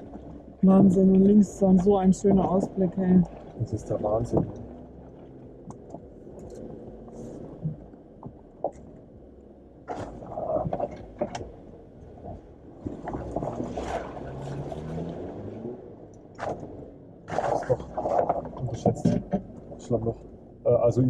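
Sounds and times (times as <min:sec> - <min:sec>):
car engine running low: 0:00.0 - 0:21.0.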